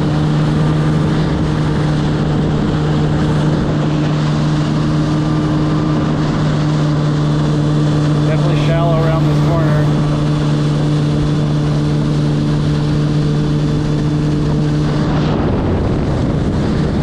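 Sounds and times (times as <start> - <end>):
jet ski engine hum: 0.0 - 17.0
rushing spray and wind: 0.0 - 17.0.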